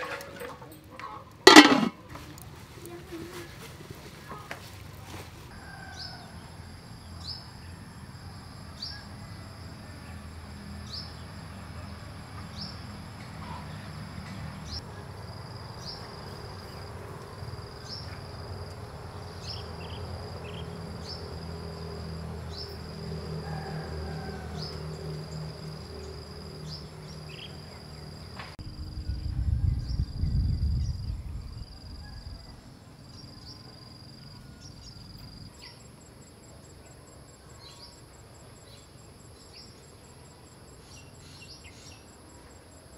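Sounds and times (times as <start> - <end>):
insect chirping and buzzing: 5.5 - 42.9.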